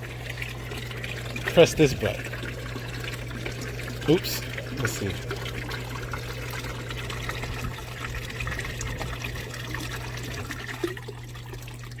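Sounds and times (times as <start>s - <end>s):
pump humming: 0.0s - 12.0s
water churning and bubbling: 0.0s - 12.0s.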